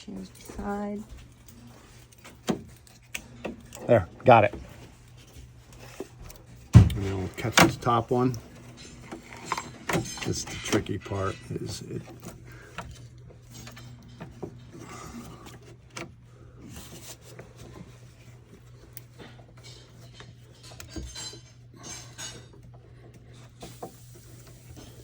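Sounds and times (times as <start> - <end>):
metal clicks and scraping: 1.4 - 25.0.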